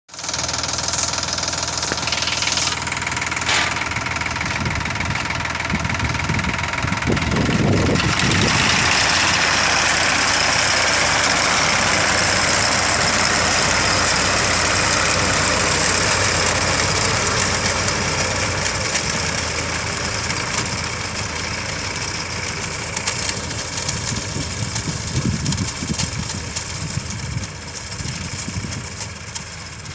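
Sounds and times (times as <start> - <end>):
harvesting machine engine running: 0.1 - 29.9.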